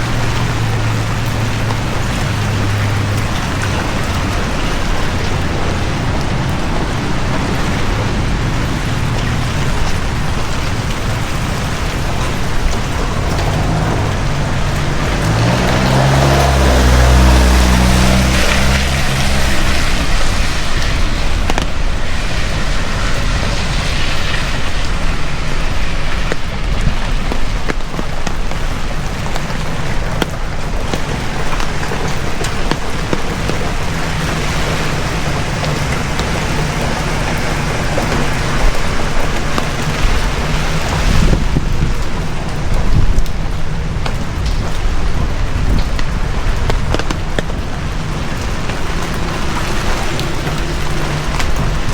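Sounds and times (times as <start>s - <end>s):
heavy rain pouring: 0.0s - 51.9s
passing vehicle engine: 0.0s - 51.9s.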